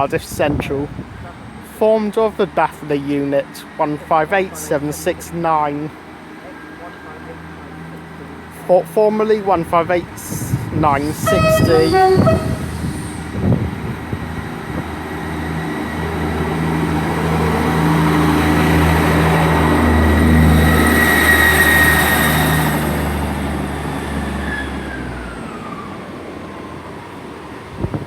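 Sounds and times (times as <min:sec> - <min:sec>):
diesel train engine accelerating: 0:00.6 - 0:28.0.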